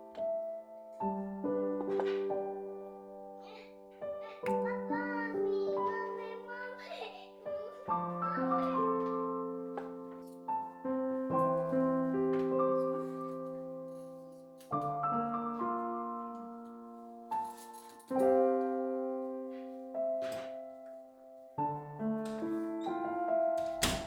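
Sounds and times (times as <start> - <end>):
soft piano chords: 0.0 - 24.0.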